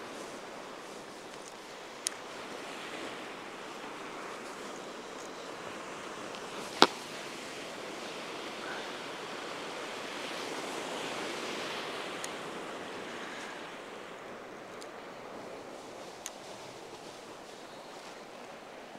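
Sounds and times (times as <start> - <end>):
ocean surf breaking over rocks: 0.0 - 17.4.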